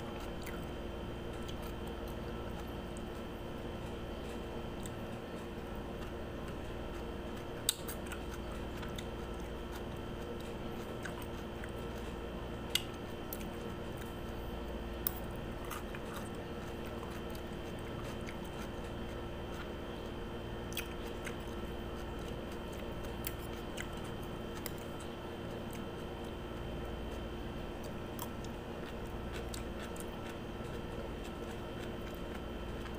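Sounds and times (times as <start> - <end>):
chewing crunchy cucumber: 0.0 - 32.9
steady hum: 0.0 - 32.9.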